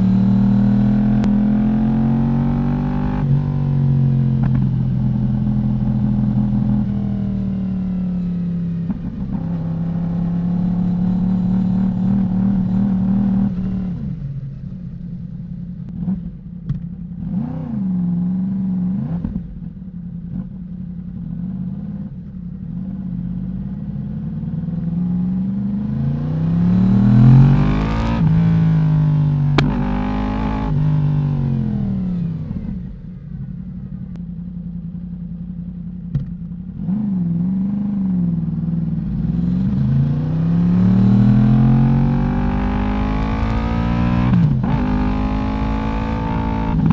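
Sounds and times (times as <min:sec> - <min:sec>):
motorcycle engine revving: 0:00.0 - 0:15.1, 0:15.9 - 0:34.2, 0:36.0 - 0:46.9.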